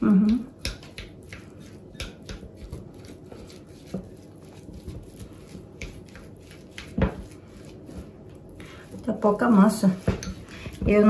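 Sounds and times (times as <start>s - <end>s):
soft squishing of mixture: 0.0s - 11.0s.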